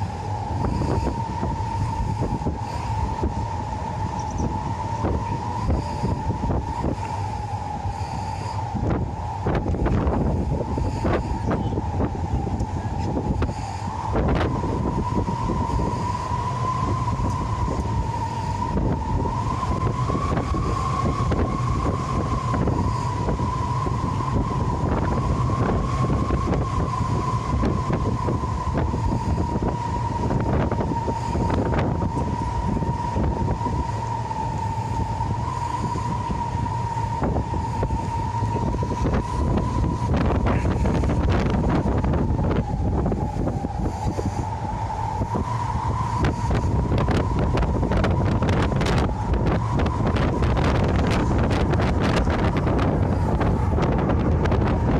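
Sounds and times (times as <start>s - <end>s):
jet engines whining: 0.0s - 54.9s
wind buffeting microphone: 0.0s - 54.9s.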